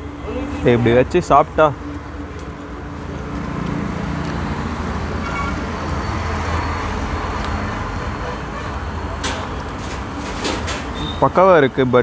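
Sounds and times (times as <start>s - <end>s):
road traffic noise: 0.0s - 12.0s
vehicle engine humming: 0.0s - 12.0s.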